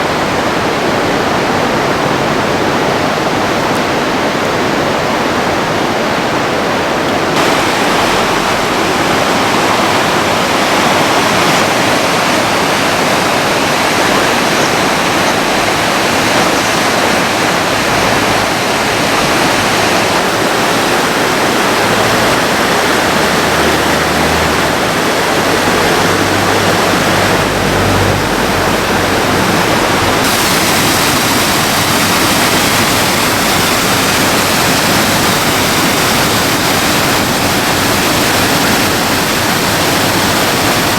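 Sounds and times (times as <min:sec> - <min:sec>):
rushing stream water: 0:00.0 - 0:40.9.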